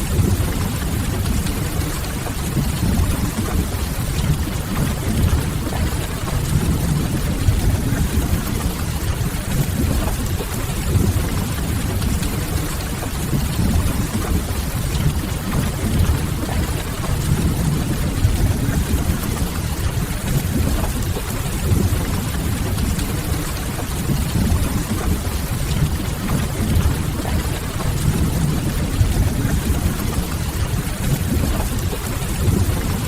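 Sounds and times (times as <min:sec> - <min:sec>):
constant low rumble: 0:00.0 - 0:33.0
steady rain: 0:00.0 - 0:33.0.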